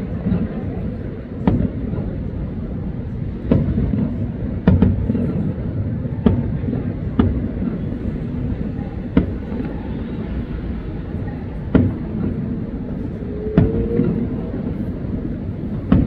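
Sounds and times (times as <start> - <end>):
distant fireworks booms: 0.0 - 16.0
steady low rumble: 0.0 - 16.0.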